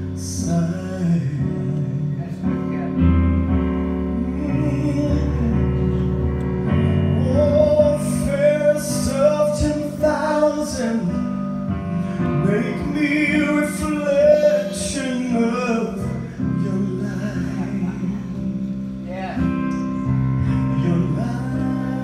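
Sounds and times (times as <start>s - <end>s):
man singing gospel: 0.0s - 2.7s, 4.1s - 18.6s, 20.3s - 22.0s
live instrumental accompaniment: 0.0s - 22.0s.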